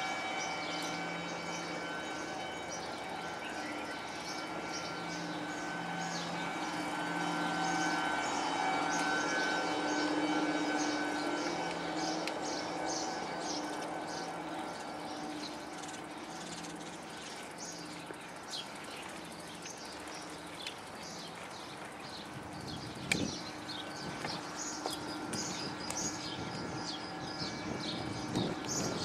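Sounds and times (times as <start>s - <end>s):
steady low hum: 0.0s - 29.0s
small birds chirping: 0.4s - 29.0s.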